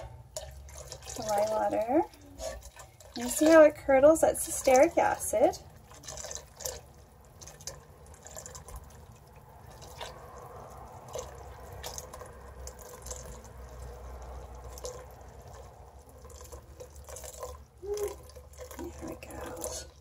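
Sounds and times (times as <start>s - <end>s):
liquid trickling into a pot: 0.0s - 20.0s.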